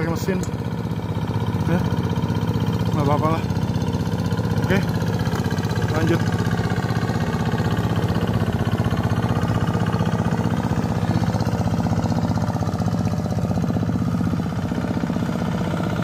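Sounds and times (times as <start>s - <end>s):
plowing machine engine running: 0.0s - 16.0s.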